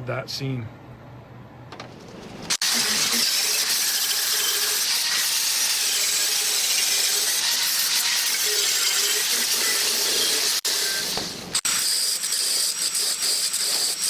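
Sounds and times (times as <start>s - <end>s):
angle grinder grinding steel: 2.5s - 14.0s.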